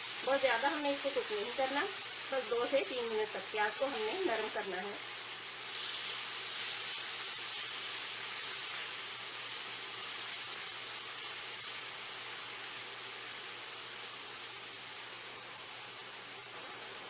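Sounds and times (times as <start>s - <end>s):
onions sizzling in a frying pan: 0.0s - 17.0s.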